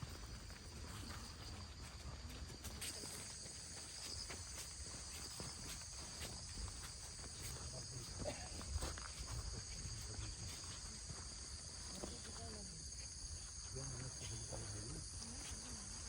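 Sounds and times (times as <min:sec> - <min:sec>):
footsteps on forest floor: 0:00.0 - 0:16.0
insect chorus drone: 0:00.0 - 0:16.0.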